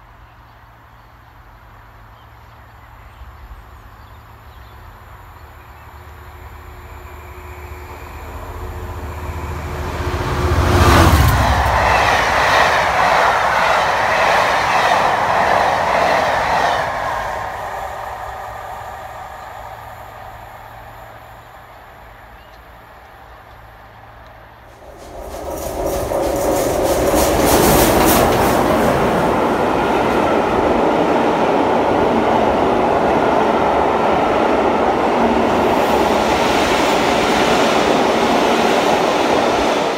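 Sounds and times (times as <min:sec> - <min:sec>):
train coaches rumbling past: 0:00.0 - 0:39.9
train noise: 0:00.0 - 0:39.9.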